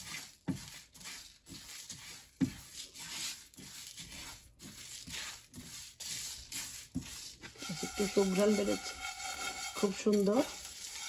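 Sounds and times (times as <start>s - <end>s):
spatula scraping seeds in pan: 0.0s - 11.0s.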